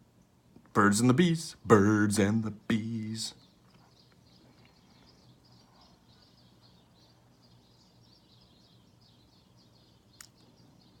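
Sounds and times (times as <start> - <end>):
faint high-pitched chirping: 0.0 - 11.0.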